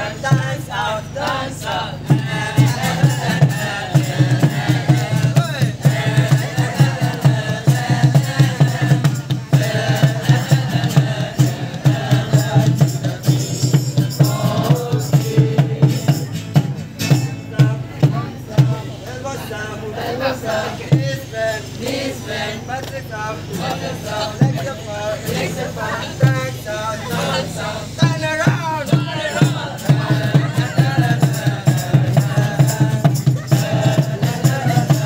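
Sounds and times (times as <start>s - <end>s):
steady low beat: 0.0s - 19.1s, 23.4s - 35.0s
group singing a carol: 0.0s - 35.0s.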